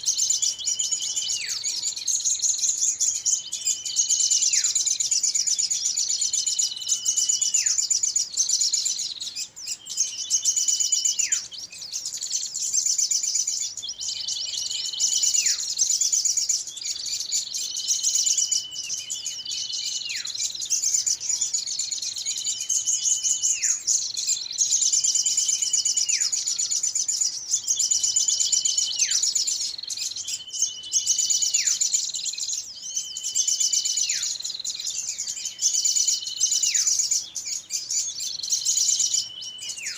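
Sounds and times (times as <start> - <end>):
small songbirds twittering: 0.0 - 39.9.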